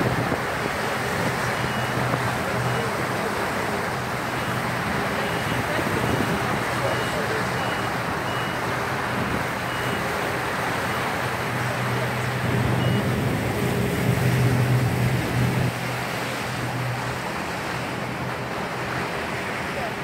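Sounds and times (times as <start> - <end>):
motorboat engine drone: 0.0 - 20.0
rushing water of wake: 0.0 - 20.0.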